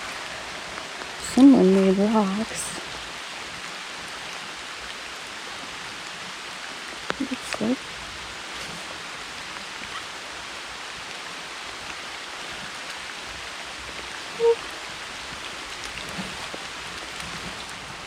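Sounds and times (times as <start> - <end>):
steady rain: 0.0 - 18.0
waterfall: 0.0 - 18.0.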